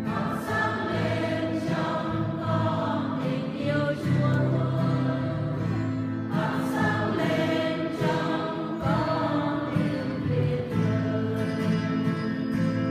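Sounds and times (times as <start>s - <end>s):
church choir singing a hymn: 0.0s - 12.4s
musical accompaniment: 0.0s - 12.9s.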